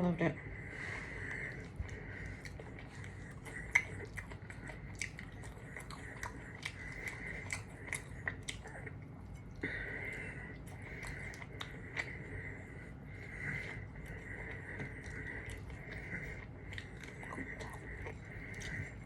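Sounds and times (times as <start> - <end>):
person chewing crunchy food: 0.7 - 19.0.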